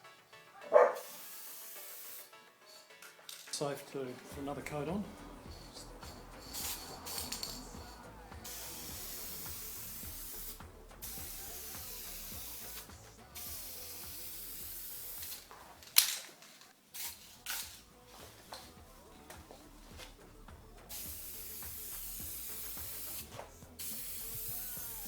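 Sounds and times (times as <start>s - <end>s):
aerosol spray hissing: 0.7s - 3.4s, 4.0s - 16.2s, 16.9s - 25.0s.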